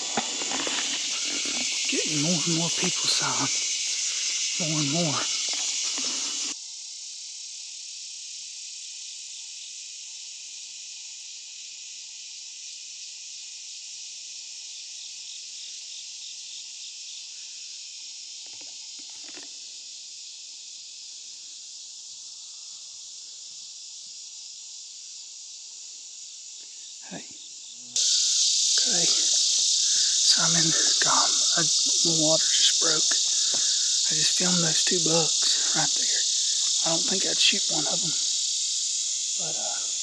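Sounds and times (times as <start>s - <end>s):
insect chorus drone: 0.0s - 40.0s.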